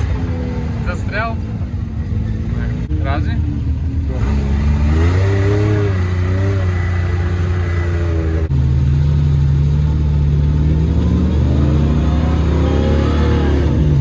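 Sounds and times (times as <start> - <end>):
truck engine straining at high revs: 0.0 - 14.0.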